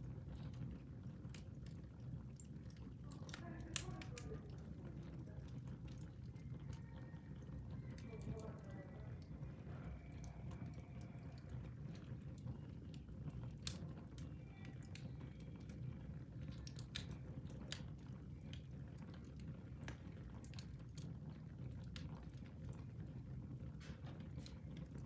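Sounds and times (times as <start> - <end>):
fire crackles and pops: 0.0 - 25.0
low rumble of flames: 0.0 - 25.0.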